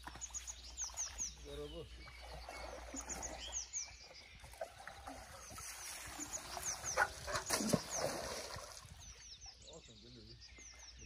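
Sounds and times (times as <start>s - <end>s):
water gurgling and splashing: 0.0s - 9.1s
birds chirping: 0.0s - 11.0s.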